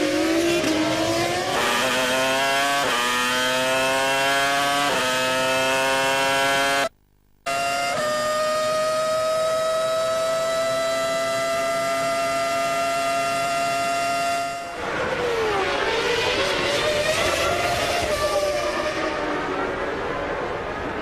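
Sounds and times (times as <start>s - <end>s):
cars braking and downshifting: 0.0s - 6.9s, 7.5s - 21.0s
racing car engines at high revs: 0.0s - 6.9s, 7.5s - 20.7s.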